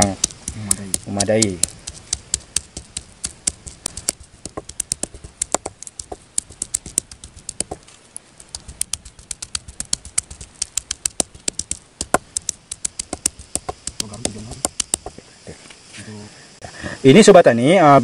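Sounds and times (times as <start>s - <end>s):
stone pounding garlic on wood: 0.0s - 7.9s, 8.5s - 15.2s.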